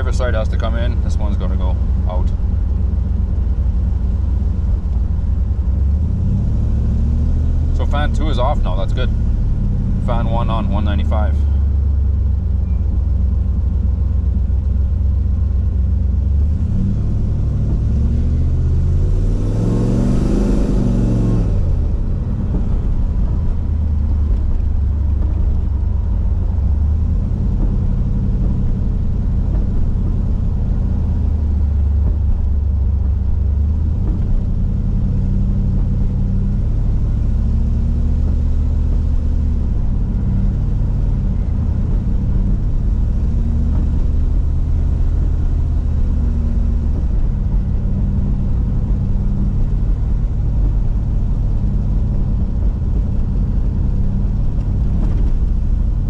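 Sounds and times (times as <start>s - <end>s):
car engine running at low speed: 0.0s - 56.0s.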